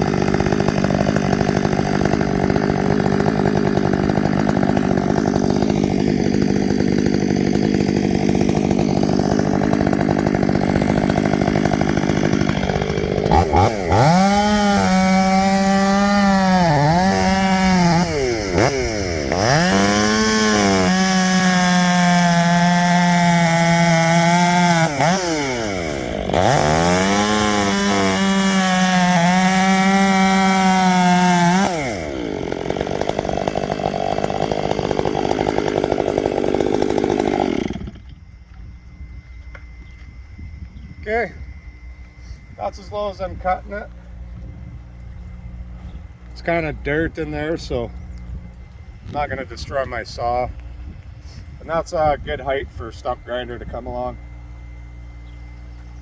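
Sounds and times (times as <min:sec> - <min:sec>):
chainsaw cutting wood: 0:00.0 - 0:38.7, 0:42.1 - 0:56.0.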